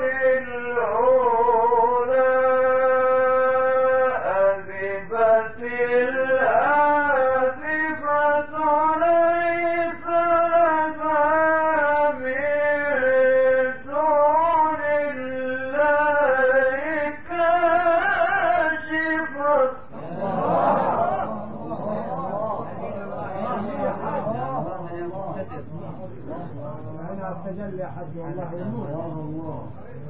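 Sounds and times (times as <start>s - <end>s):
man chanting melodically: 0.0s - 30.0s.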